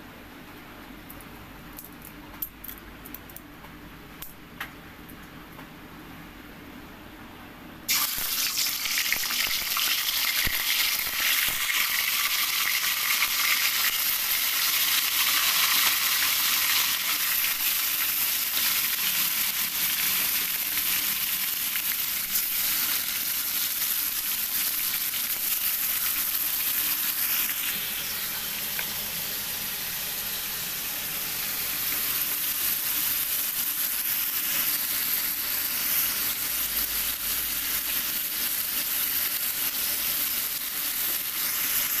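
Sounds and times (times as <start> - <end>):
chicken sizzling in hot oil: 7.9 - 42.0.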